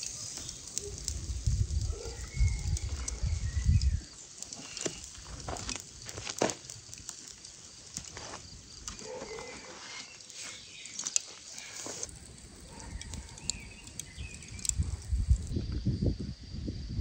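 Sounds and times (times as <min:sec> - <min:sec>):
wire grill basket clicking and rustling: 0:00.0 - 0:15.5.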